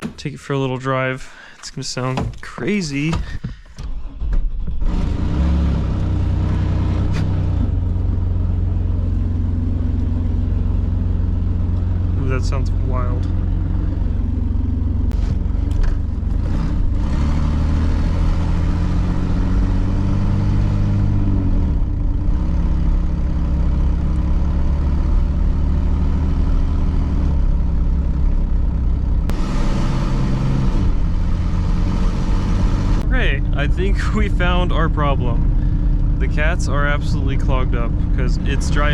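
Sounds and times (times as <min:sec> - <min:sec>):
loud engine with open exhaust: 0:04.6 - 0:38.9.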